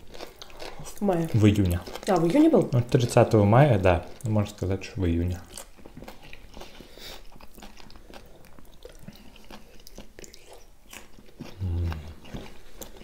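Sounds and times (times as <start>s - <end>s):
cucumber crunching: 0.0s - 13.0s
people chewing food: 0.0s - 13.0s.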